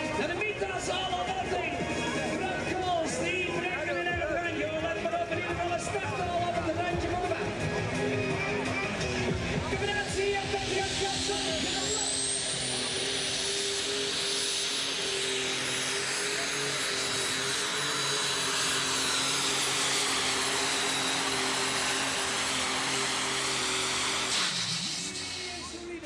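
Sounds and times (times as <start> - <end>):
high turbo whine: 0.0 - 26.0
tractor diesel engine at high revs: 0.0 - 26.0.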